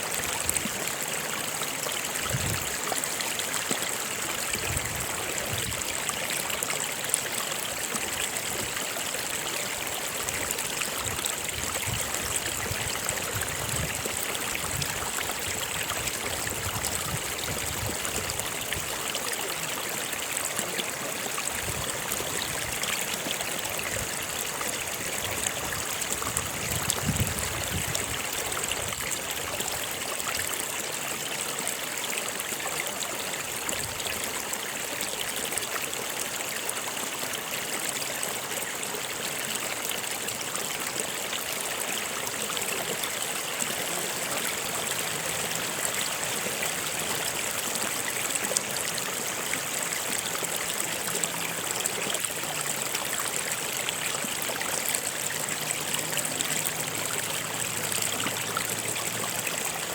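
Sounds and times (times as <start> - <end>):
water flowing over rocks: 0.0 - 59.9.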